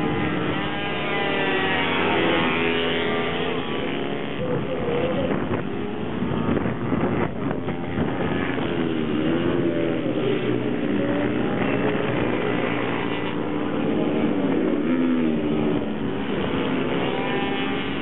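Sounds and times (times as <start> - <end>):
minibike engines revving: 0.0 - 18.0.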